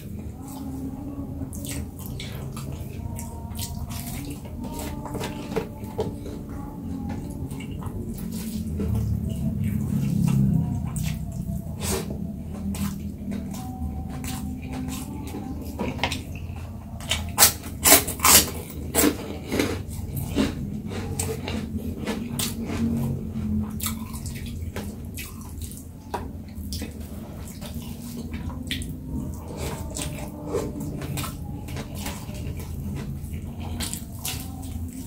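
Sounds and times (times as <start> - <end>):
steady low hum: 0.0 - 35.0
wet chewing: 0.0 - 35.0.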